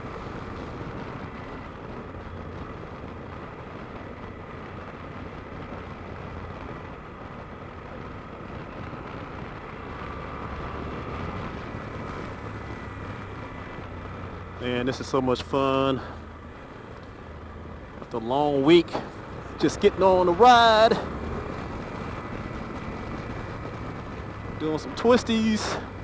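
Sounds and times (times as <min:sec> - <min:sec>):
motorcycle engine running: 0:00.0 - 0:26.0
wind noise: 0:00.0 - 0:26.0.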